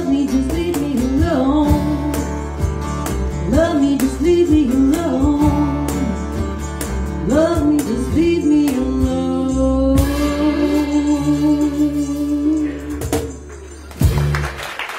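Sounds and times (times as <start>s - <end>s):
electric bass: 0.0s - 14.7s
drums: 0.0s - 14.9s.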